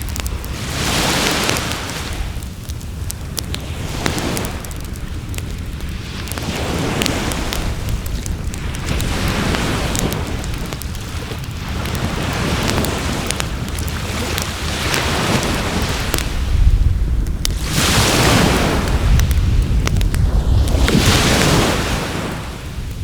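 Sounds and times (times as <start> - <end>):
waves washing on shore: 0.0 - 23.0
wood fire crackling: 0.0 - 23.0.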